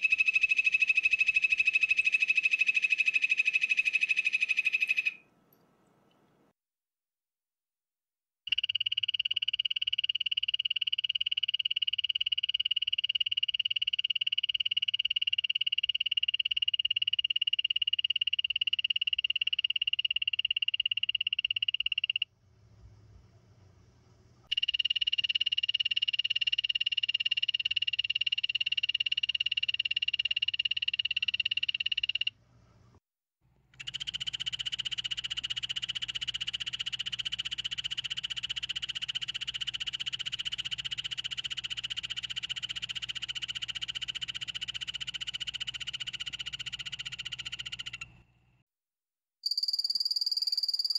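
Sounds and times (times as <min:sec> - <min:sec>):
frog high-pitched trills: 0:00.0 - 0:05.2, 0:08.5 - 0:22.3, 0:24.5 - 0:32.4, 0:33.8 - 0:48.2, 0:49.4 - 0:50.9.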